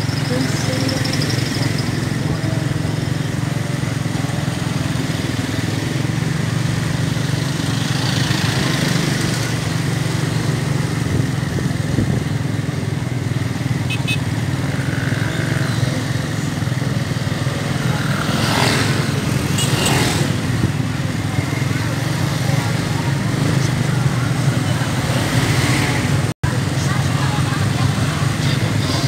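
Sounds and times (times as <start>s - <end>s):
motorcycle passing: 0.0s - 29.0s
vehicle engine drone and road noise: 0.0s - 29.0s.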